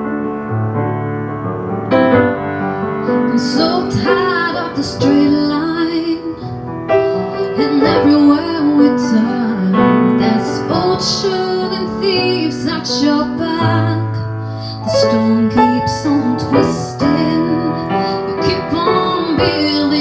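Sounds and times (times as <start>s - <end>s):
grand piano: 0.0s - 20.0s
woman singing into a microphone: 3.1s - 20.0s.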